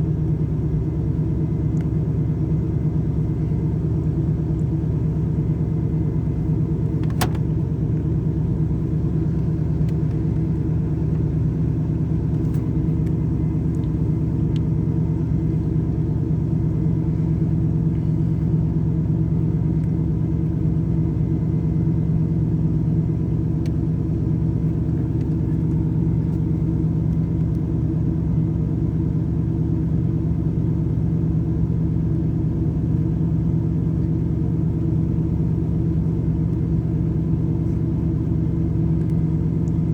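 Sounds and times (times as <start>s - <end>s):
car engine rough idle: 0.0s - 39.9s.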